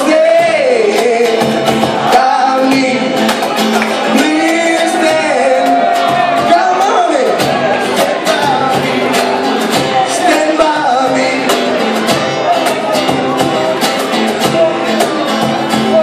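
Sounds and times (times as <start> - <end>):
guitar: 0.0 - 16.0
person singing: 0.0 - 16.0.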